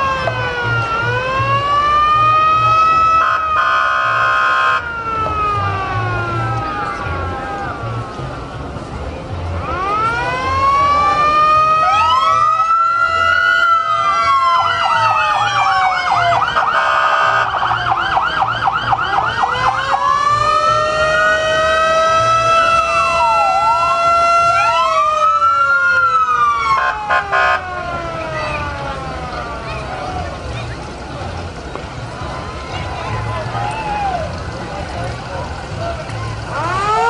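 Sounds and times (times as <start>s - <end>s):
emergency vehicle sirens wailing: 0.0s - 37.0s.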